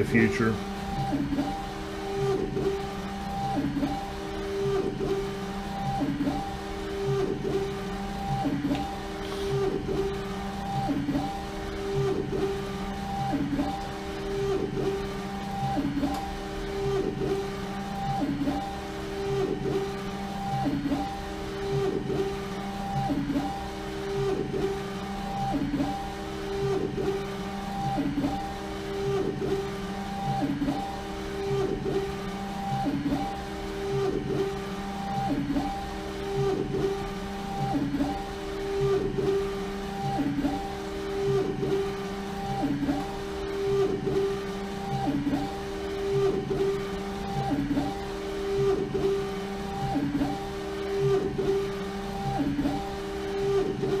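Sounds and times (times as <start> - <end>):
printer carriage motor whirring: 0.0 - 54.0
steady hum: 0.0 - 54.0.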